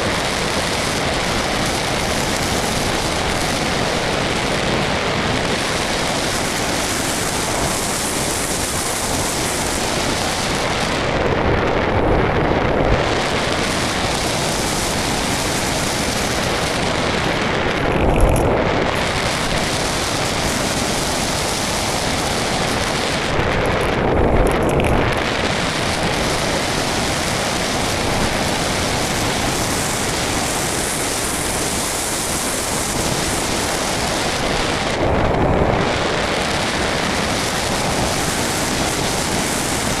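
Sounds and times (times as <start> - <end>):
model plane motor noise: 0.0 - 40.0
rush of airflow: 0.0 - 40.0.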